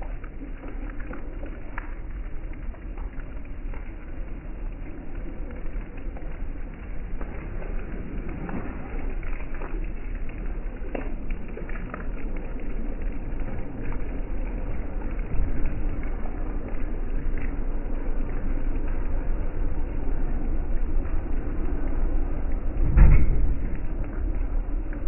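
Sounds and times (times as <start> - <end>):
low rumble: 0.0 - 25.0
steady rain: 0.0 - 25.0.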